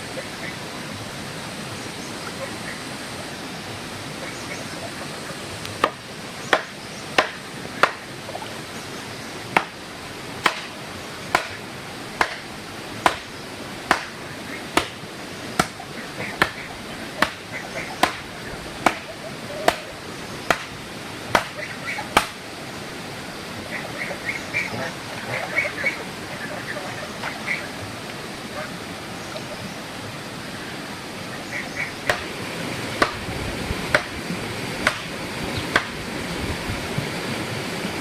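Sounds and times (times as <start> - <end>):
steady rushing background noise: 0.0 - 38.0.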